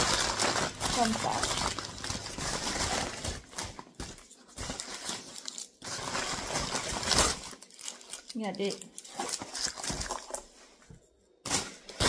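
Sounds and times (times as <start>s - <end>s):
paper bag crinkling: 0.0s - 10.6s.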